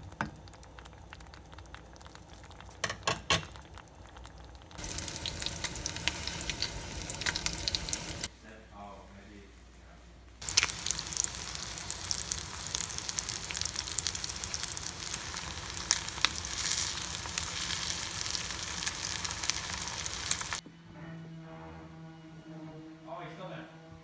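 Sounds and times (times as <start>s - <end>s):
food sizzling with crackles: 0.0s - 20.6s.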